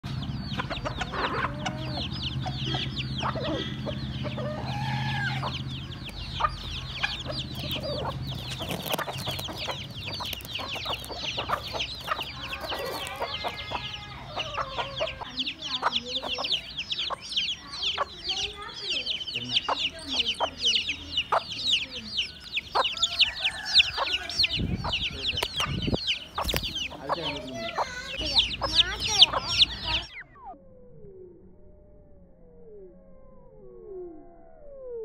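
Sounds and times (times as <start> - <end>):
chicks peeping: 0.0 - 30.5.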